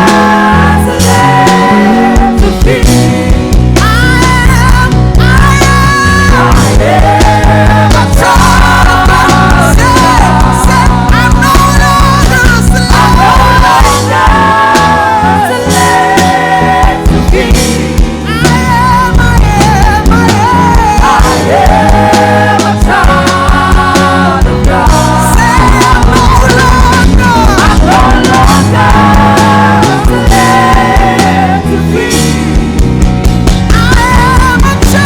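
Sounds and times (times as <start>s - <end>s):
bass and drums: 0.0s - 35.0s
people singing: 0.0s - 35.0s.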